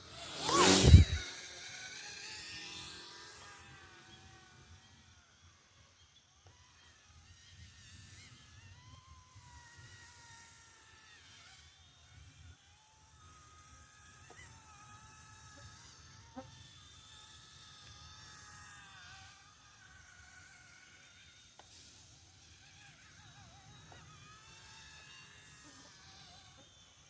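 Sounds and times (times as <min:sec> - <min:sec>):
small electric motor whine: 0:00.0 - 0:27.0.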